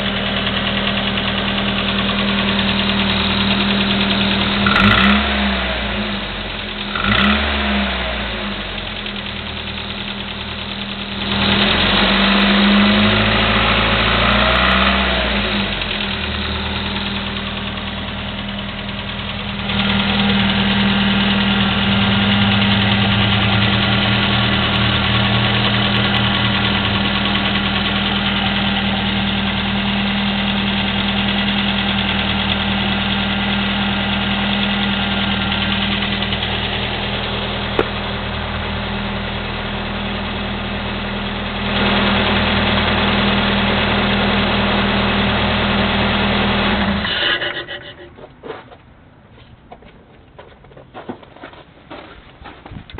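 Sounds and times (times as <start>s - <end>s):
car engine revving and idling: 0.0s - 48.8s.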